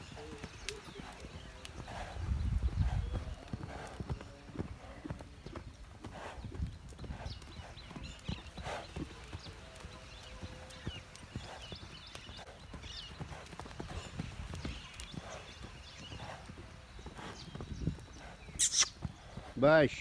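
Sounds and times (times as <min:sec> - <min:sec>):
horse hoofbeats on sand: 0:00.0 - 0:20.0.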